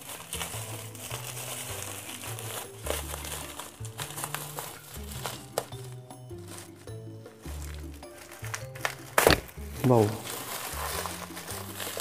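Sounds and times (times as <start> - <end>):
background music with bass line: 0.0 - 12.0
plastic packaging crinkling: 0.0 - 12.0.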